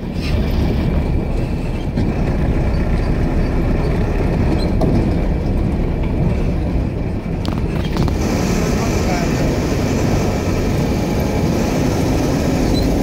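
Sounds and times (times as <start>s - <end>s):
road noise: 0.0s - 13.0s
vehicle engine low rumble: 0.0s - 13.0s.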